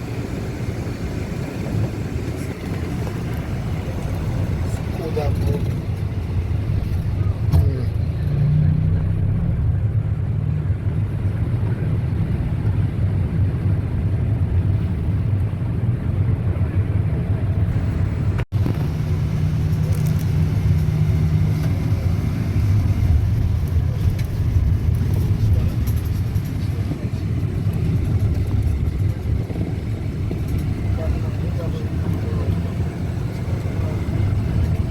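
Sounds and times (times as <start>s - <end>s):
boat engine rumbling: 0.0s - 34.9s.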